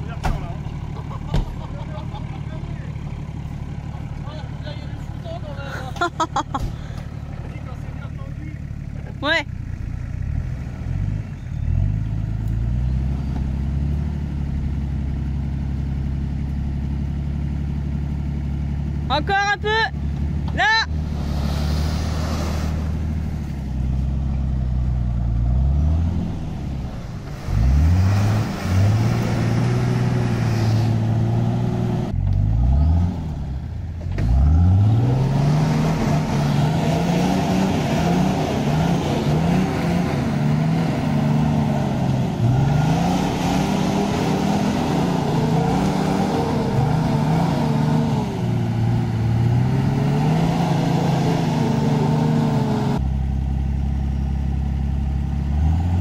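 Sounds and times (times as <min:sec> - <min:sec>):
engine running and revving: 0:00.0 - 0:56.0.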